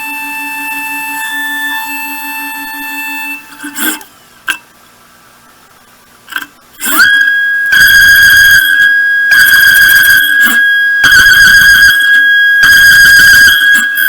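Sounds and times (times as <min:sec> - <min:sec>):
mill spindle whining: 0:00.0 - 0:04.1, 0:06.8 - 0:14.0
cutter cutting steel: 0:00.0 - 0:04.6, 0:06.8 - 0:14.0.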